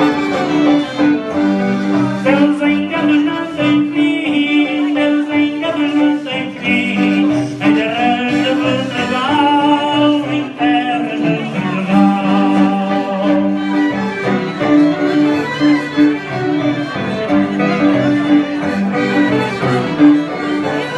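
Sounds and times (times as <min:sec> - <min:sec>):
live band playing dance music: 0:00.0 - 0:20.9.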